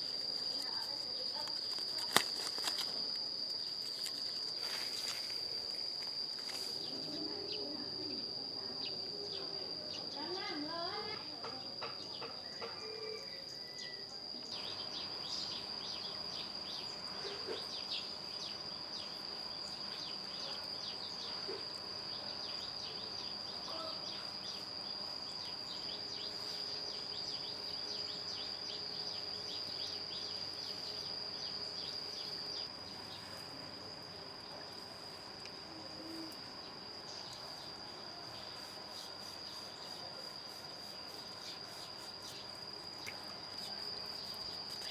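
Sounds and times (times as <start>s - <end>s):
high-pitched insect drone: 0.0s - 44.9s
rapid insect chirping: 0.0s - 44.9s.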